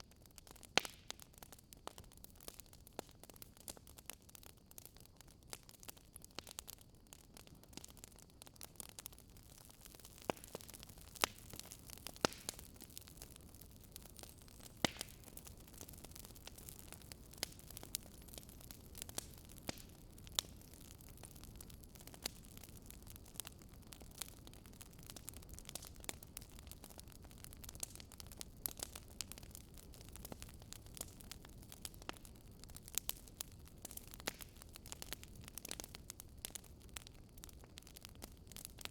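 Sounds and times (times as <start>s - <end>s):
fireplace fire crackling: 0.1s - 38.9s.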